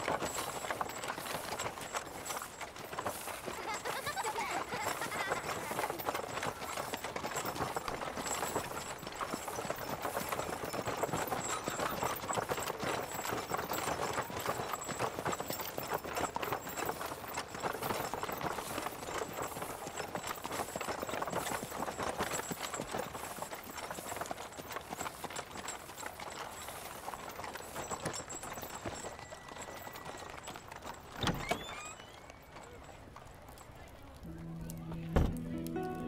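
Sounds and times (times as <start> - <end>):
horse hooves clip-clopping: 0.0 - 36.0.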